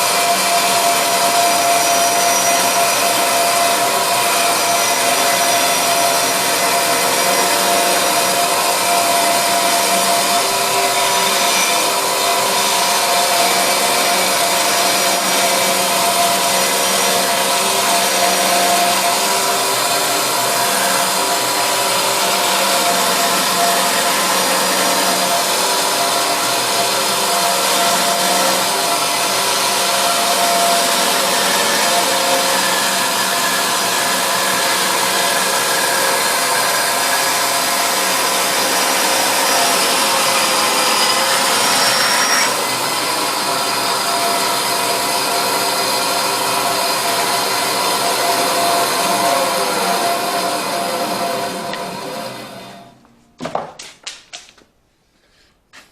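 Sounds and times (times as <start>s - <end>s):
electric saw cutting timber: 0.0s - 52.9s.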